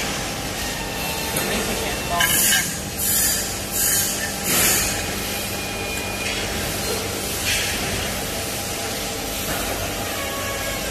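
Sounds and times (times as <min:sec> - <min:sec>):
laser cutting machine hum: 0:00.0 - 0:10.9.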